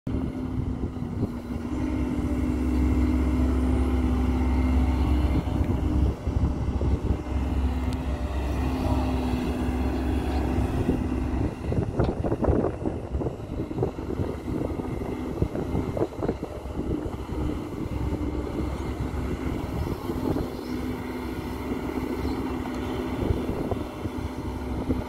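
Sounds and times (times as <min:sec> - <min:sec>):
excavator diesel engine under load: 0:00.1 - 0:25.0
second excavator running: 0:00.1 - 0:25.0.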